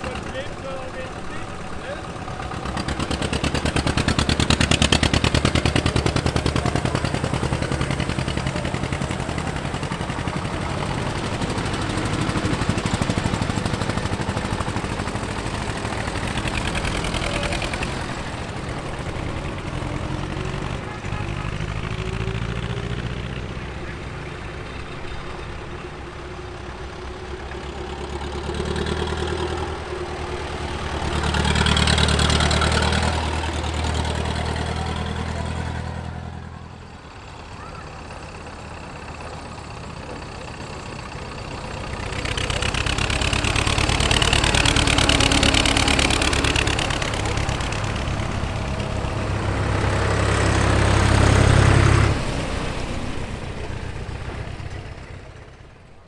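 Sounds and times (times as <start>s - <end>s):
tractor engines chugging past: 0.0s - 56.0s.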